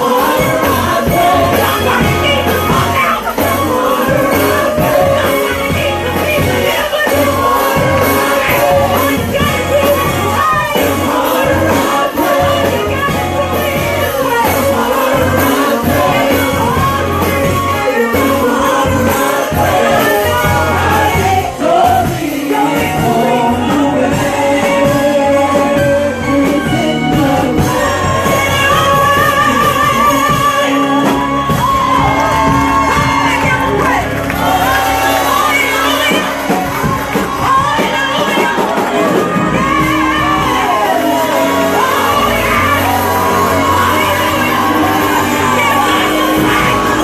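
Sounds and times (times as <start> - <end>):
gospel singers with band: 0.0 - 47.0.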